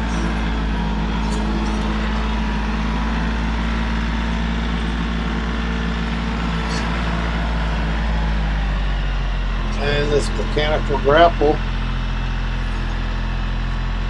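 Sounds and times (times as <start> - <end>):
tractor engine humming: 0.0 - 14.0.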